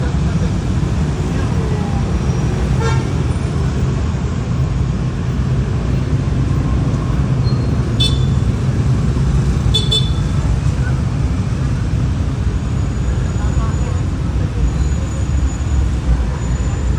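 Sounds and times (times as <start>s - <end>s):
low rumble of road traffic: 0.0s - 16.9s.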